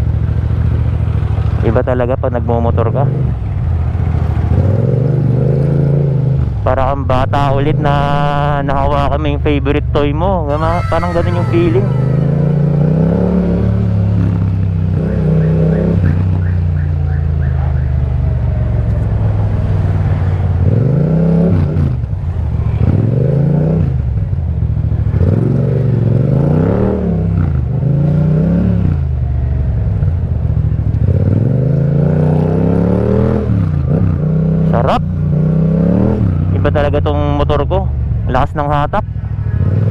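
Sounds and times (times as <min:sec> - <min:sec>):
motorcycle engine accelerating: 0:00.0 - 0:38.4, 0:39.0 - 0:39.9.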